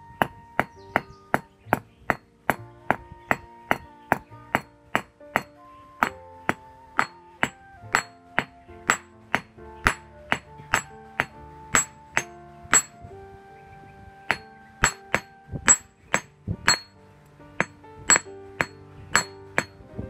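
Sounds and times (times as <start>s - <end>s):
background music: 0.0s - 20.0s
hammer striking steel rod: 0.2s - 13.0s, 14.3s - 17.0s, 17.6s - 19.8s.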